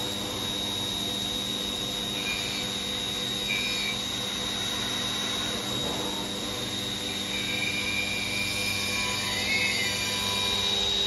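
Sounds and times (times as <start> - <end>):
machine hum: 0.0 - 11.0
milling spindle high whine: 0.0 - 11.0.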